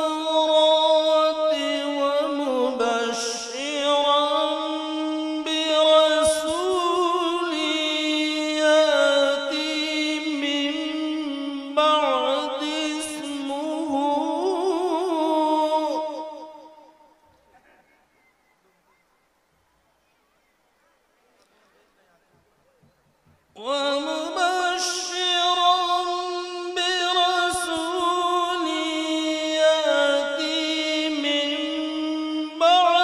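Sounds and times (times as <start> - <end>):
man chanting melodically: 0.0 - 17.2, 23.5 - 33.0.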